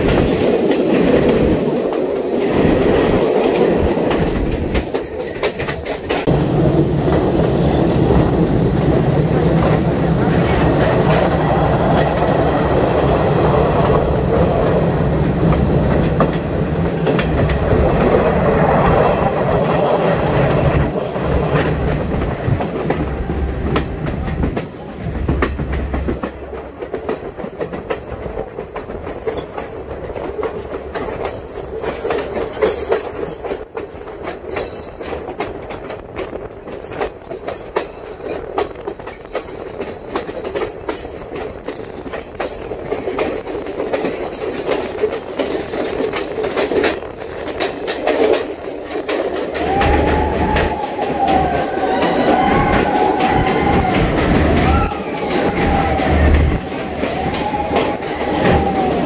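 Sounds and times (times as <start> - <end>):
train rumble and engine hum: 0.0 - 59.0
wheels clacking over rail joints: 0.0 - 59.0.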